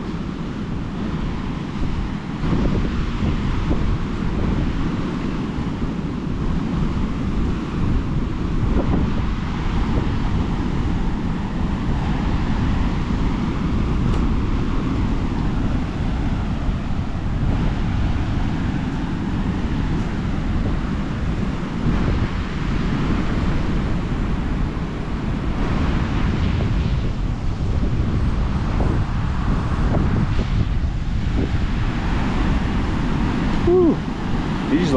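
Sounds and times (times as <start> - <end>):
surf breaking on shore: 0.0 - 34.9
wind buffeting microphone: 0.0 - 34.9.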